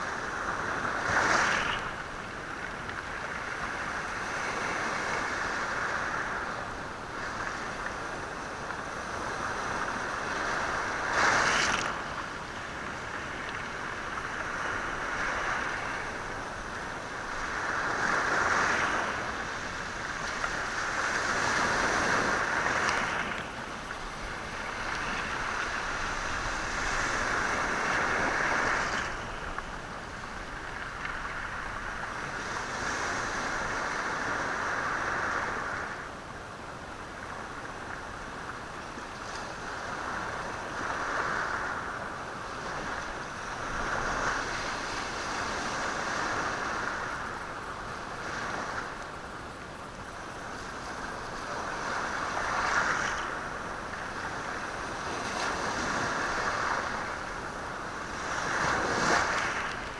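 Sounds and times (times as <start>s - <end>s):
waves washing over stony shore: 0.0s - 36.1s, 39.2s - 49.3s, 50.5s - 59.9s.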